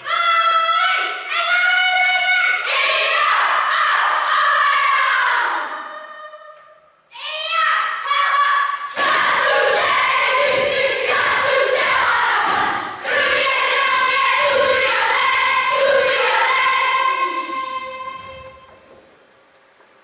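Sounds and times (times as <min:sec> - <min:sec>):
children chanting in unison: 0:00.0 - 0:06.4, 0:08.0 - 0:18.5.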